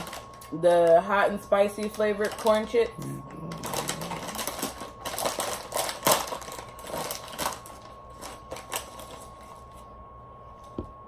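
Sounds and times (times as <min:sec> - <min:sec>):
plastic chip bag crinkling: 0:00.0 - 0:09.8.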